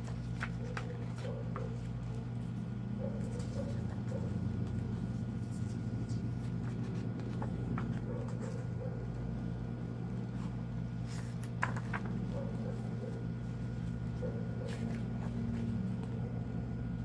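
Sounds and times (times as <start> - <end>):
book pages turning: 0.0 - 2.6, 3.2 - 8.8, 10.0 - 16.3
steady low hum: 0.0 - 17.0.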